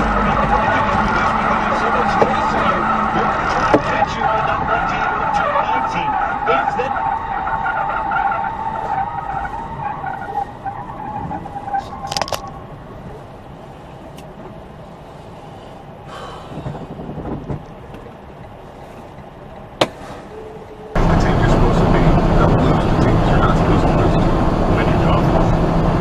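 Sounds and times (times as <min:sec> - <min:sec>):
car engine and road noise: 0:00.0 - 0:26.0
steady whine: 0:00.0 - 0:26.0.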